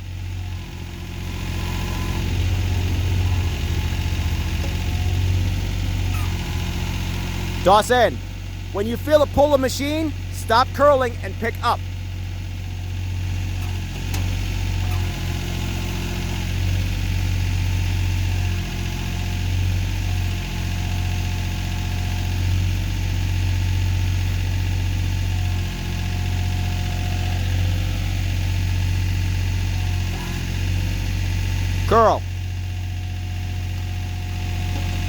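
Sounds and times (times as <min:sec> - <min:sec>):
backhoe diesel engine running: 0:00.0 - 0:35.0.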